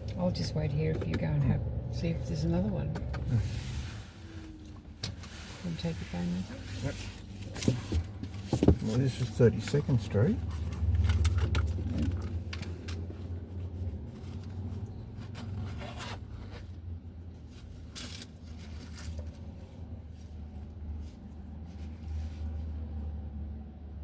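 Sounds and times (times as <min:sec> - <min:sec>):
car engine idling: 0:00.0 - 0:22.9
rustling and scraping: 0:03.2 - 0:22.9.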